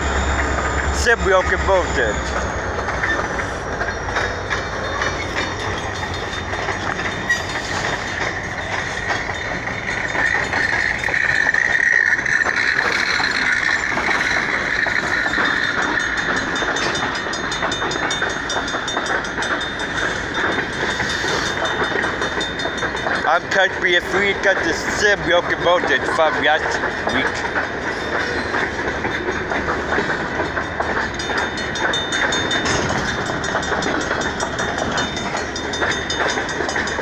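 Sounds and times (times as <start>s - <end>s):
train wheels rumbling and clacking: 0.0s - 37.0s.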